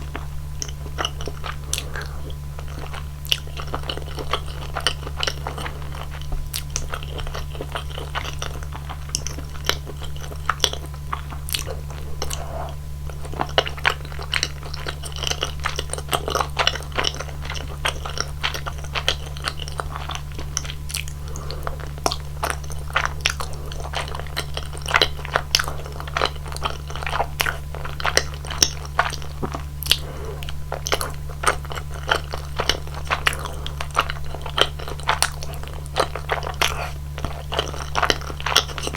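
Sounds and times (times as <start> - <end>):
chewing chewy food: 0.0 - 38.9
steady low hum: 0.0 - 38.9.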